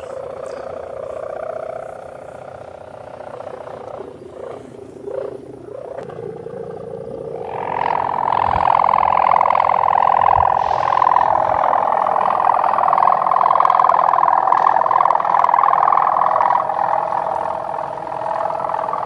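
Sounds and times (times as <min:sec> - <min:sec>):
kite hummer droning: 0:00.0 - 0:19.0.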